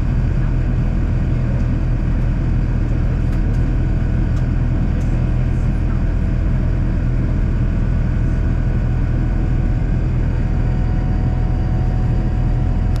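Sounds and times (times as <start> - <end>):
aircraft engines rumbling: 0.0 - 13.0.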